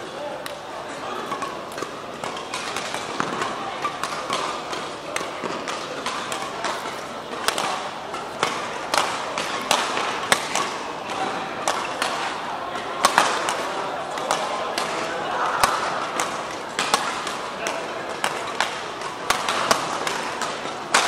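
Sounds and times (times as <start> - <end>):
busy sports hall background: 0.0 - 21.0
rackets striking shuttlecock: 1.2 - 21.0.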